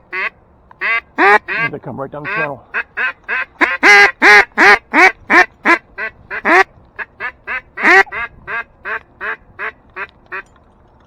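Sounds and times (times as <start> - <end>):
duck call quacks: 0.0 - 10.4.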